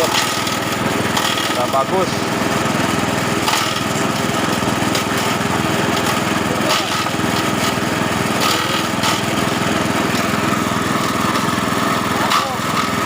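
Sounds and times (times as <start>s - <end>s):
brush-cutter engine running: 0.0s - 13.0s.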